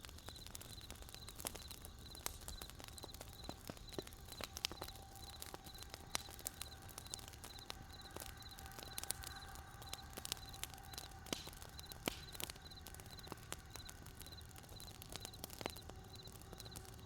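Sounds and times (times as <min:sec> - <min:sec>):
campfire crackling: 0:00.0 - 0:17.0
cricket chirping: 0:00.0 - 0:17.0.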